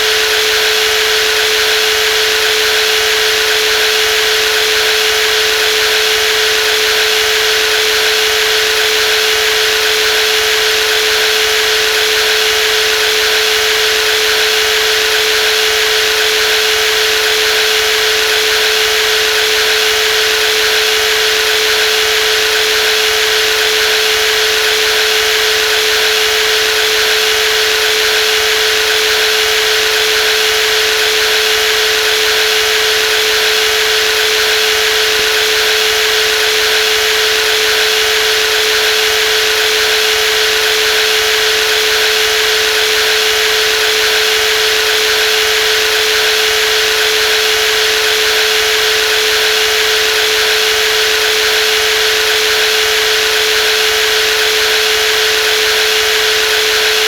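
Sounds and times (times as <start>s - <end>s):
jigsaw motor whine: 0.0s - 57.0s.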